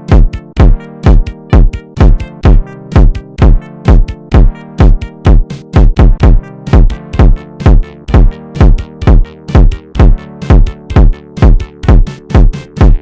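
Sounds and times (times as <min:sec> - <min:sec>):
electronic dance music: 0:00.0 - 0:13.0
heavy kick drum: 0:00.0 - 0:13.0
held synth chords: 0:00.0 - 0:13.0.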